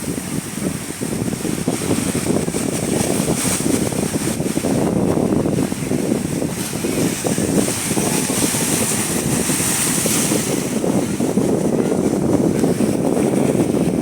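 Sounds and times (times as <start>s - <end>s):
ocean surf washing in: 0.0s - 14.0s
wind buffeting microphone: 0.0s - 14.0s.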